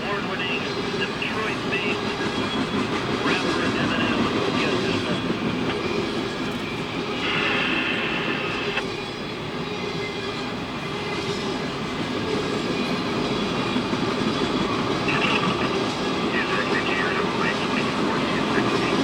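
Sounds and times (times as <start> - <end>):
train cars rumbling on rails: 0.0 - 19.0.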